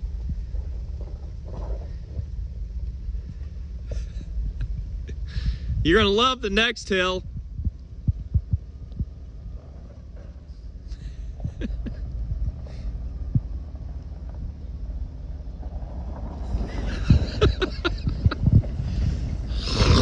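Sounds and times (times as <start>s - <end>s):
pickup truck engine running: 0.0s - 20.0s
suspension clunking over ruts: 0.0s - 20.0s.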